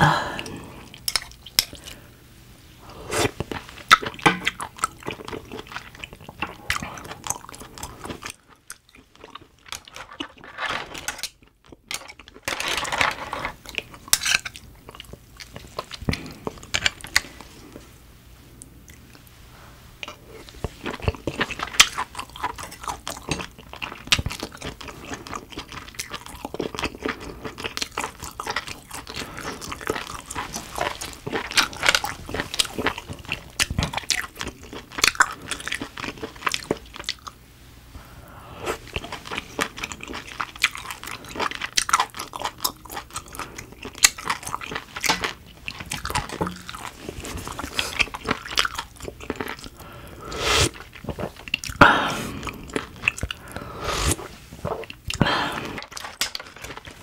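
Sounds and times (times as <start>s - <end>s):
chewing and wet mouth sounds: 0.4s - 2.0s, 3.1s - 12.5s, 13.5s - 17.9s, 20.0s - 37.4s, 38.7s - 57.0s.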